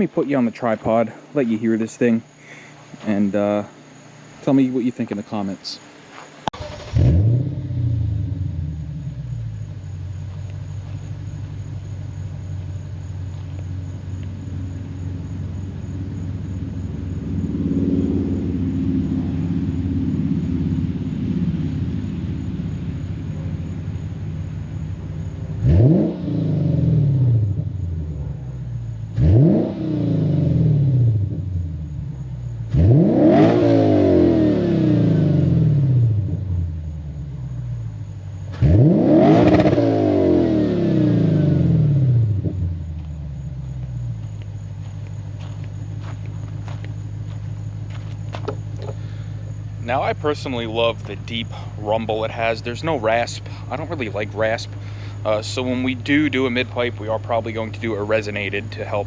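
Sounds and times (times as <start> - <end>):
car engine idling and revving: 6.1 - 59.0
car engine starting: 6.4 - 59.0.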